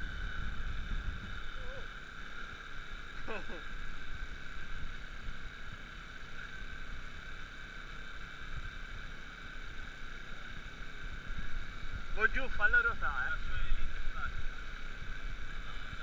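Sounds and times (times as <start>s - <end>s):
wind rumble on microphone: 0.0s - 7.3s, 8.0s - 16.0s.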